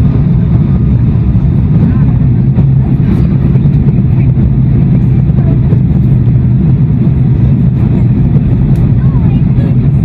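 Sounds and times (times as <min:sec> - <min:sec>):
jet engine rumble: 0:00.0 - 0:10.0.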